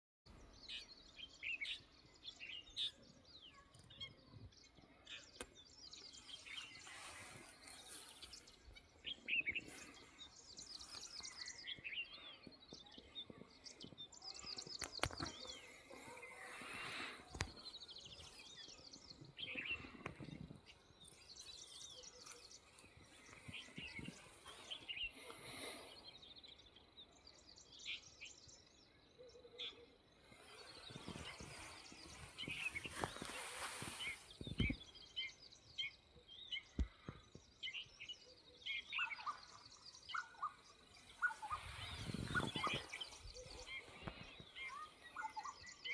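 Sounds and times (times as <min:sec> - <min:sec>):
small birds chirping: 0:00.3 - 0:45.9.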